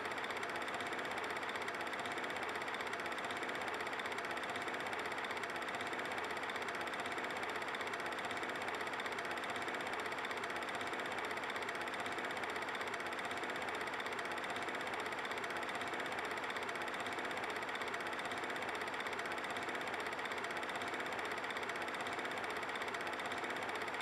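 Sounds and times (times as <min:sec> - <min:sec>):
film projector clatter and whir: 0:00.0 - 0:24.0.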